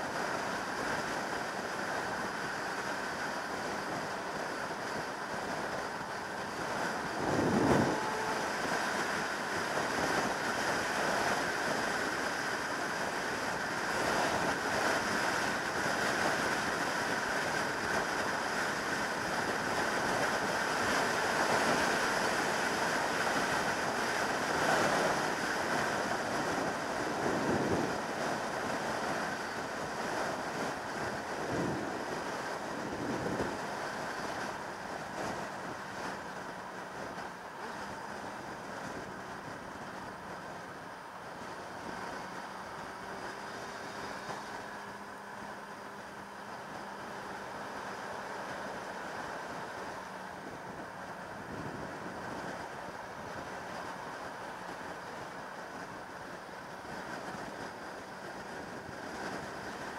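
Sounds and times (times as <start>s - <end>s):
buffeting wind gusts: 0.0s - 59.9s
wind rushing over microphone: 0.0s - 59.9s.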